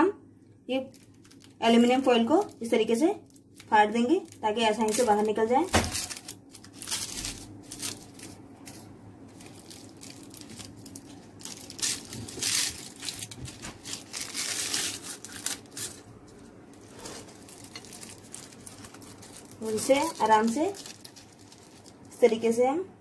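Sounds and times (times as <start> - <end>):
aluminium foil crinkling and tearing: 0.7 - 22.4.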